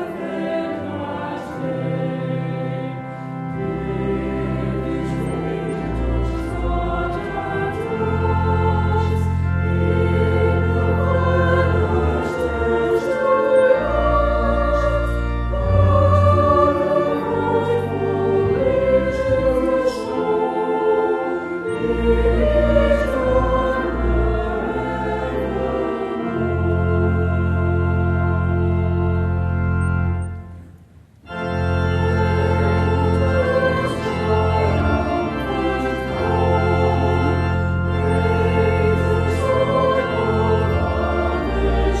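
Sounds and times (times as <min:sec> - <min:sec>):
choir singing slow piece: 0:00.0 - 0:42.0.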